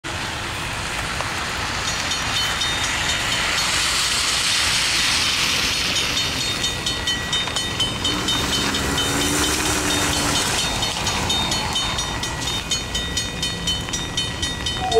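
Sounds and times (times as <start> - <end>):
rain and wet road noise: 0.0 - 14.9
railroad crossing bell ringing: 1.6 - 4.4, 5.5 - 14.9.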